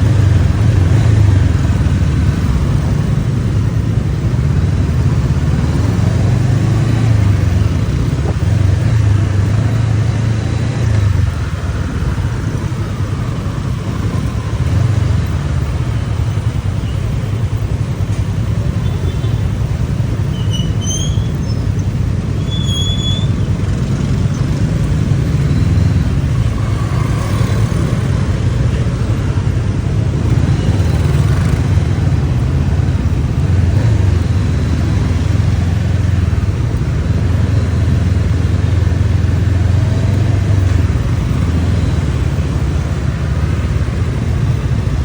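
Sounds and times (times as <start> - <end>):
motorcycle engine running: 0.0 - 45.0
surrounding traffic: 0.0 - 45.0.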